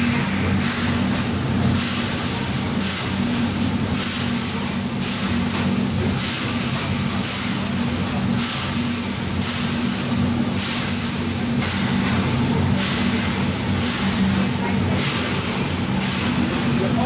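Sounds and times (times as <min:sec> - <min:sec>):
rhythmic steam hiss: 0:00.0 - 0:17.0
steam engine low mechanical hum: 0:00.0 - 0:17.0.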